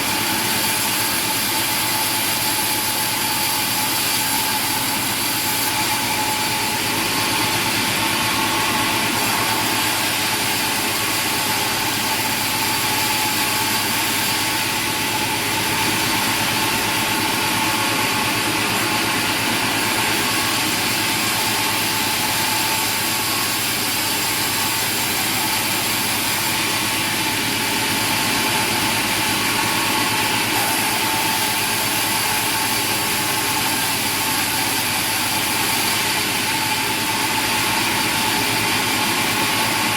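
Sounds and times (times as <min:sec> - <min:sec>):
machine drone: 0:00.0 - 0:39.9.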